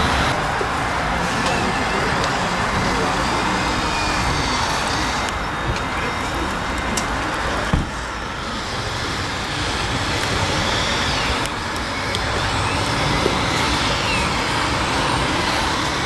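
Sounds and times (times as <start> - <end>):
model vehicle rumble: 0.0 - 16.0
motor whine: 0.0 - 16.0.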